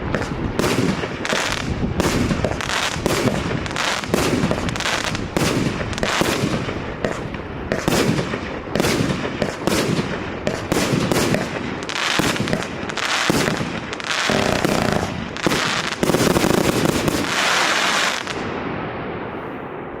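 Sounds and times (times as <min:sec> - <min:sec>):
firework crackle: 0:00.0 - 0:20.0.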